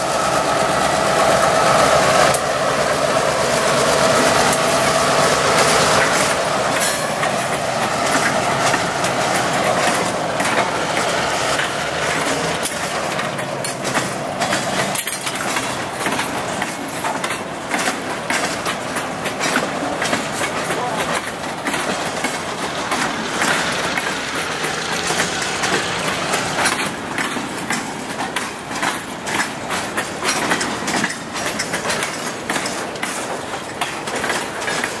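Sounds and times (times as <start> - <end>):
diesel locomotives passing: 0.0 - 35.0
train wheels clacking on rails: 0.0 - 35.0.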